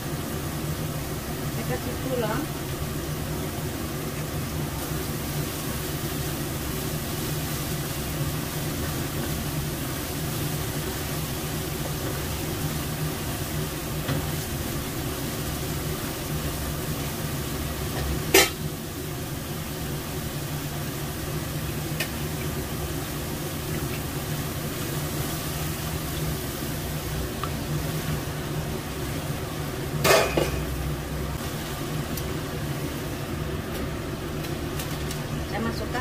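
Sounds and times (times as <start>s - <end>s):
paste sizzling in a wok: 0.0s - 36.0s.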